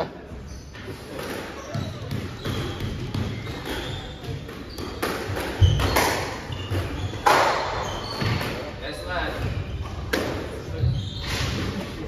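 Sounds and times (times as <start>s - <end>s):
shoes squeaking on wooden floor: 0.3s - 12.0s.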